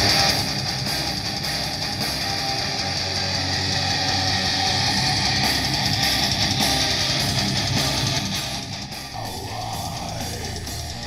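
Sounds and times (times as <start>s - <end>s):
guitar music from speaker: 0.0s - 11.0s.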